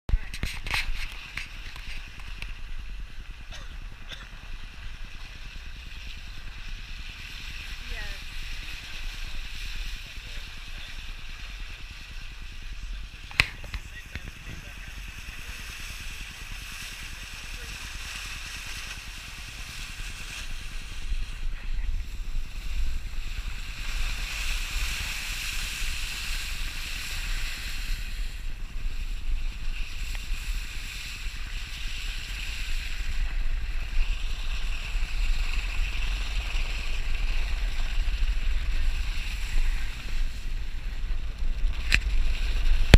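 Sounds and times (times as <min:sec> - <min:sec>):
road noise driving on snow: 0:00.1 - 0:42.9
wind buffeting microphone: 0:00.1 - 0:42.9.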